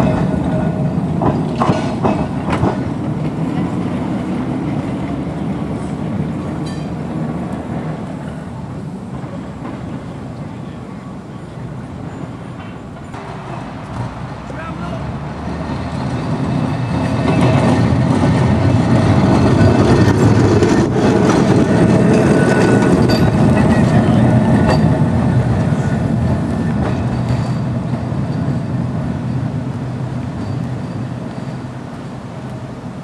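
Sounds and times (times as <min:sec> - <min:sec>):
tram rumbling past on rails: 0:00.0 - 0:33.0.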